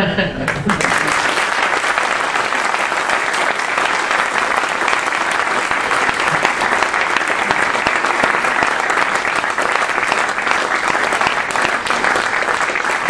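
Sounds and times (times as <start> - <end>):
audience applause: 0.4 - 13.0.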